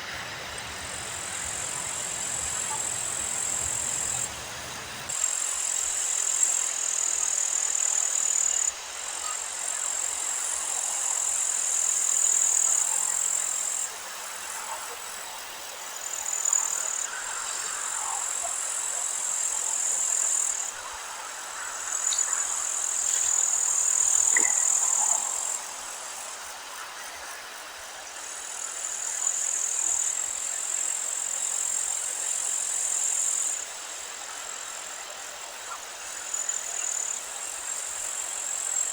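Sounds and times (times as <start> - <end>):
high-pitched hiss: 0.0 - 38.9.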